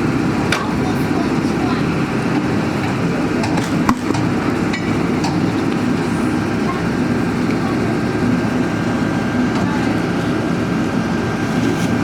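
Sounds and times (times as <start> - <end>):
drilling rig running: 0.0 - 12.0.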